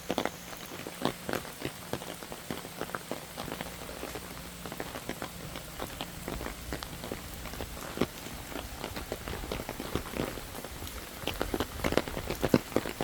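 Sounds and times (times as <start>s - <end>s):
raindrops tapping on a surface: 0.0s - 13.0s
steady rain hiss: 0.0s - 13.0s.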